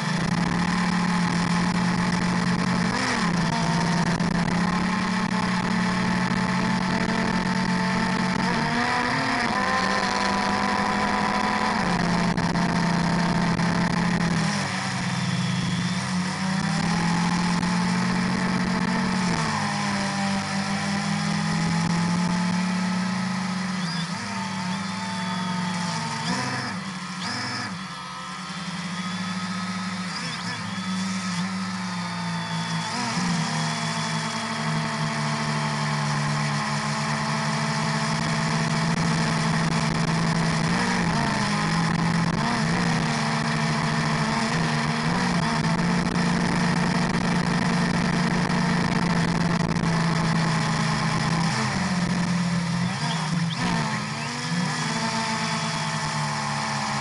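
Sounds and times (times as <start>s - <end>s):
drone propellers humming: 0.0s - 57.0s.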